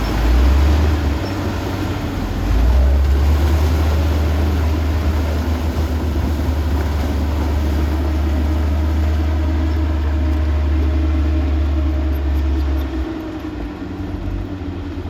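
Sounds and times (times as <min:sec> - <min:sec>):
diesel machine engine rumbling: 0:00.0 - 0:15.0.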